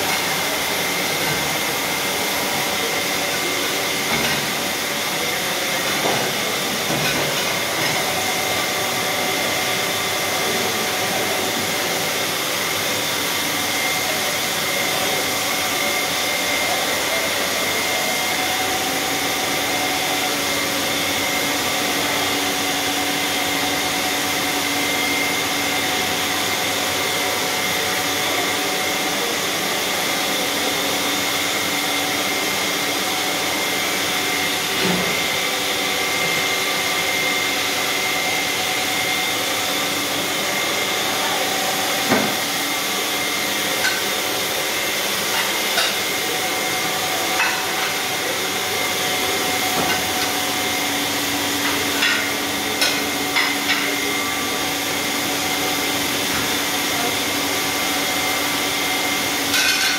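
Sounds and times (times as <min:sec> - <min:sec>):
dishwashing machine whirring: 0:00.0 - 0:59.9.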